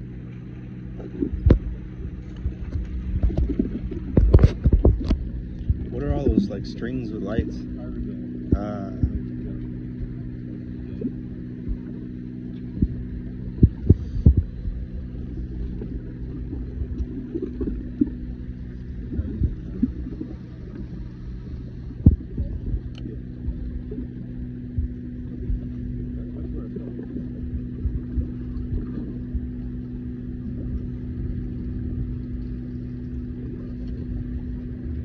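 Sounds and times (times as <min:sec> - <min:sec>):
boat machinery humming: 0:00.0 - 0:35.0.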